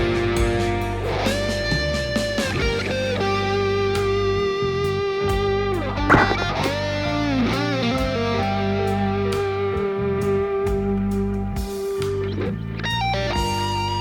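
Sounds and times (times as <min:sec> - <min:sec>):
slow electric guitar lead: 0:00.0 - 0:14.0.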